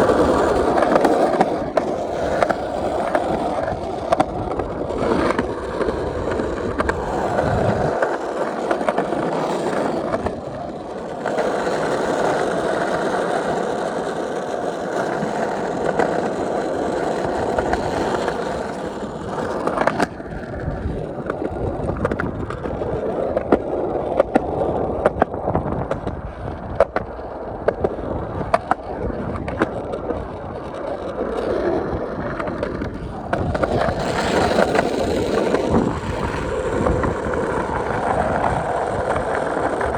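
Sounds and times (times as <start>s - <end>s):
skateboard clicking over joints: 0.0s - 39.9s
skateboard wheels rolling on pavement: 0.0s - 39.9s.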